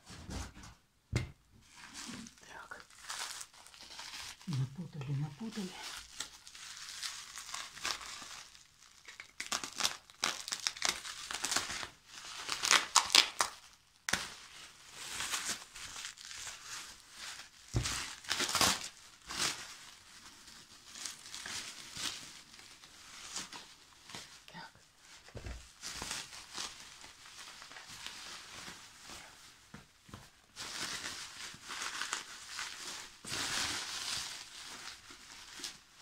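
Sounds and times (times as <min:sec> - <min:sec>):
bubble wrap crinkling: 0:01.6 - 0:36.0.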